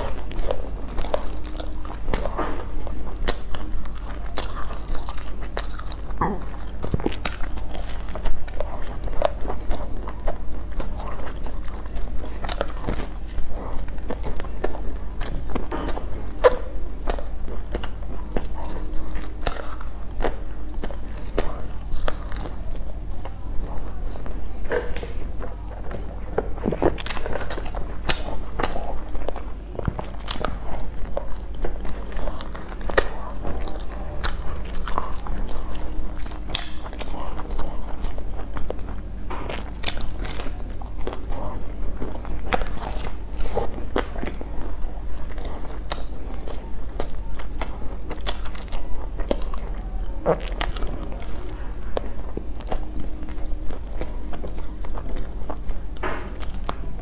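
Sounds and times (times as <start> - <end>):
close chewing and mouth clicks: 0.0 - 57.0
steady low hum: 0.0 - 57.0.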